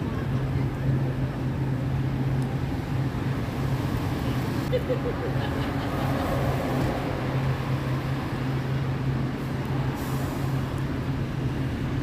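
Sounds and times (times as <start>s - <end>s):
road traffic drone: 0.0s - 12.0s.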